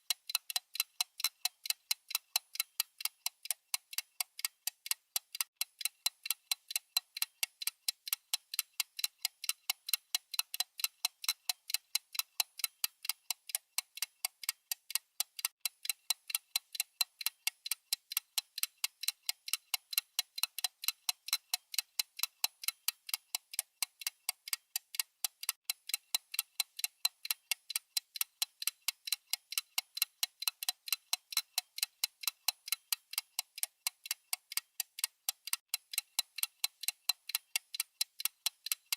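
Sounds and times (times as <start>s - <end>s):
watch ticking: 0.0s - 38.9s.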